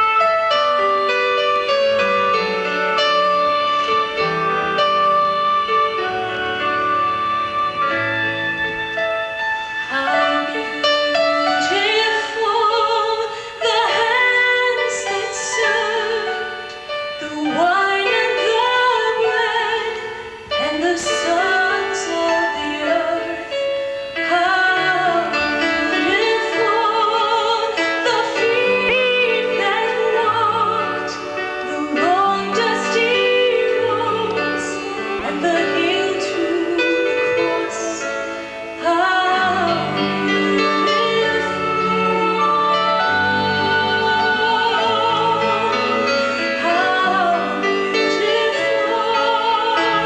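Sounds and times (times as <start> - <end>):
piano chords: 0.0 - 50.0
woman singing: 9.9 - 50.0.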